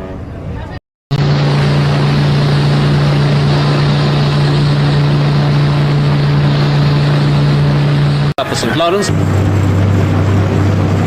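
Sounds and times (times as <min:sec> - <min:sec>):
rushing noise: 0:01.1 - 0:11.0
ship's horn blast: 0:01.1 - 0:11.0.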